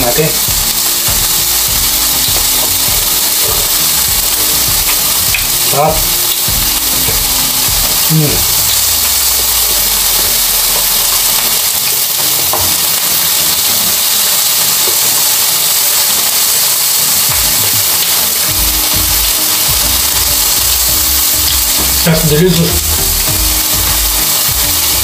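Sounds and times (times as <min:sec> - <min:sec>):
food sizzling on a grill: 0:00.0 - 0:25.0.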